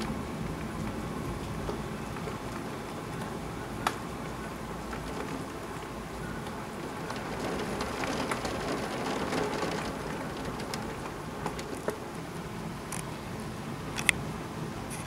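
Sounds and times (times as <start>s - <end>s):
raindrops ticking on window glass: 0.0s - 14.8s
heavy rain falling: 0.0s - 15.0s.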